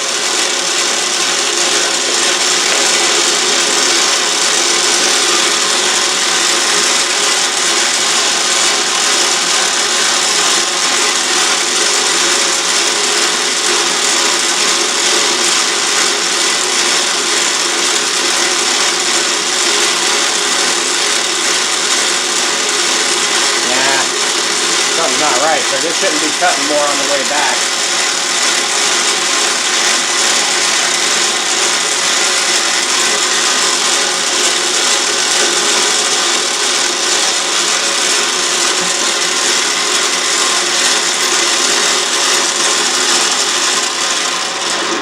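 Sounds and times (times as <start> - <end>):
lathe motor humming: 0.0 - 45.0
lathe tool cutting hiss: 0.0 - 45.0.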